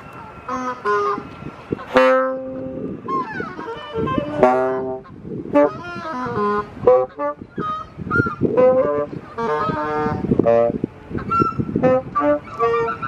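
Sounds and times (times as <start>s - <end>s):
geese honking: 0.2s - 10.3s, 11.1s - 13.0s
reed instruments improvising: 0.4s - 13.0s.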